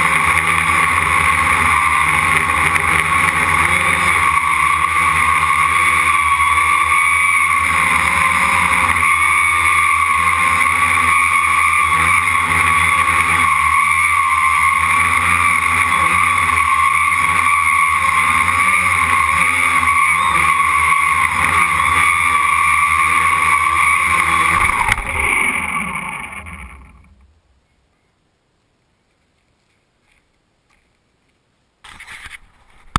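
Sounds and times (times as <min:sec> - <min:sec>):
quadcopter propellers whining: 0:00.0 - 0:27.4.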